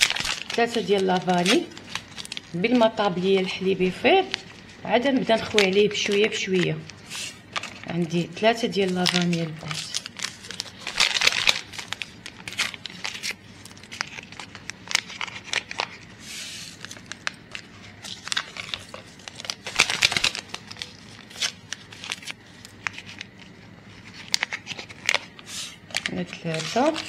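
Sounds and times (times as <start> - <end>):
paper sachets tearing and crinkling: 0.0 - 8.0, 8.7 - 27.0.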